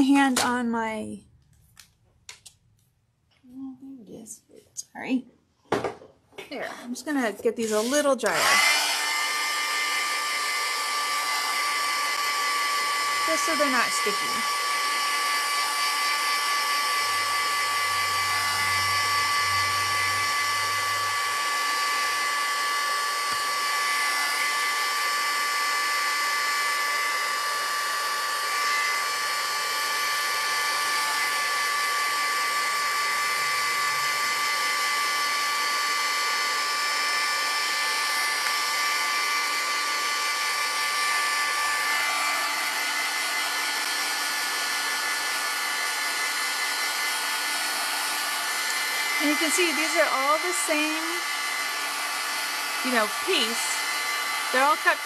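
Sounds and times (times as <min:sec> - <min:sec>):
heat tool blowing air: 0:07.1 - 0:55.0.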